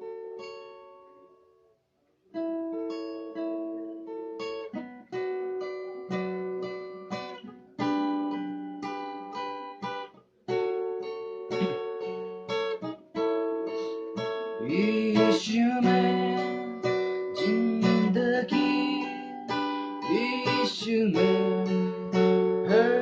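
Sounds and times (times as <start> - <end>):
strummed acoustic guitar: 2.3 - 23.0.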